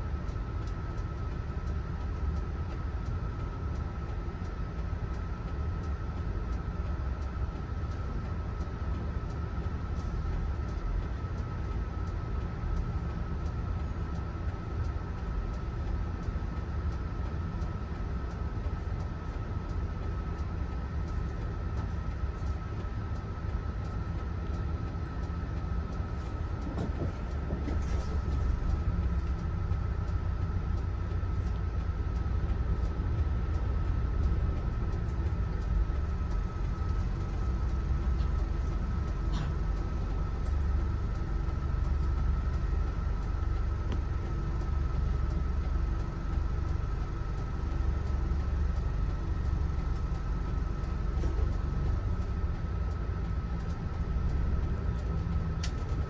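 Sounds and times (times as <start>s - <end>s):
coach engine and road rumble: 0.0s - 56.0s.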